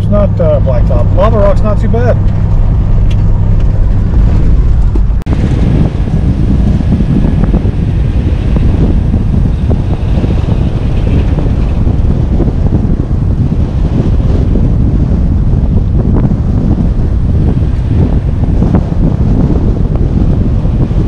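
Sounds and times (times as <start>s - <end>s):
truck engine rumble: 0.0s - 21.0s
wind buffeting microphone: 0.0s - 21.0s.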